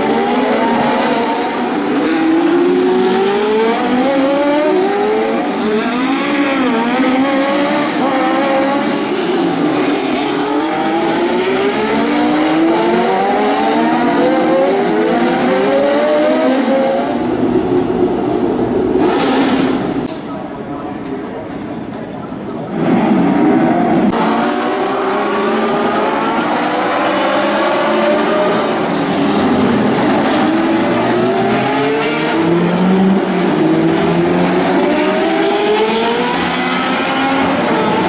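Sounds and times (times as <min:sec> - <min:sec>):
racing car engines revving: 0:00.0 - 0:38.0.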